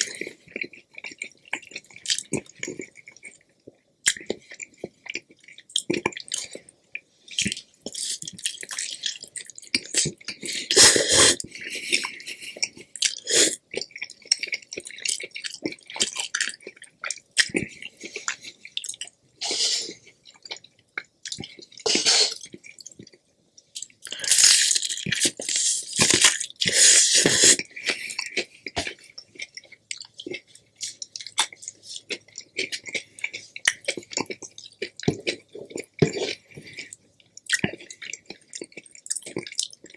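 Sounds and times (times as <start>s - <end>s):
person chewing with wet mouth sounds: 0.0s - 39.9s.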